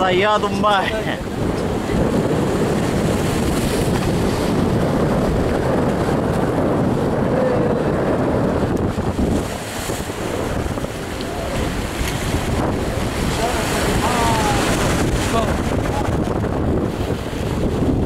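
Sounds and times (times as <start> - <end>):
waves breaking against rocks: 0.0 - 18.0
wind buffeting microphone: 0.0 - 18.0.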